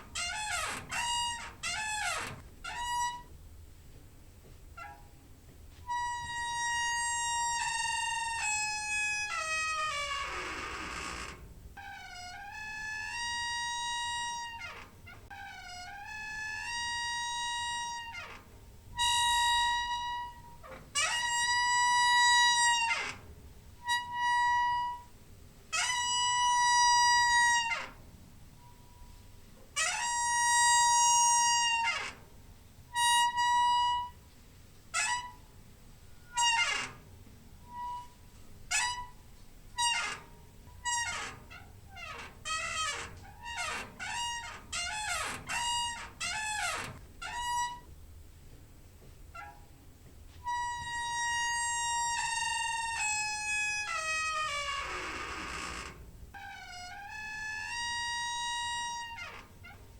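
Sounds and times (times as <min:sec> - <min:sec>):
door hinge squeaking: 0:00.0 - 0:03.4, 0:04.8 - 0:05.2, 0:05.8 - 0:25.1, 0:25.7 - 0:28.0, 0:29.8 - 0:32.3, 0:32.9 - 0:34.2, 0:34.9 - 0:35.5, 0:36.1 - 0:48.0, 0:49.3 - 0:49.8, 0:50.4 - 0:59.9.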